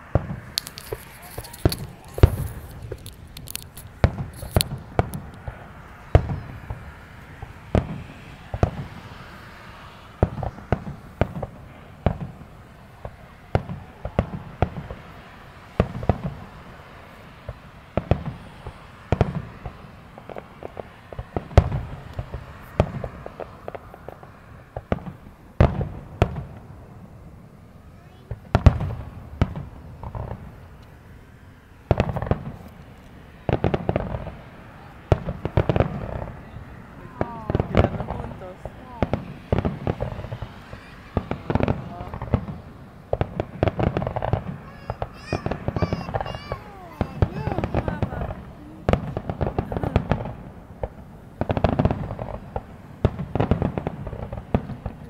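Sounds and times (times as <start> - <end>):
small fireworks pops: 0.0 - 31.1, 31.8 - 55.0
fireworks bursting with sharp bangs: 0.0 - 55.0.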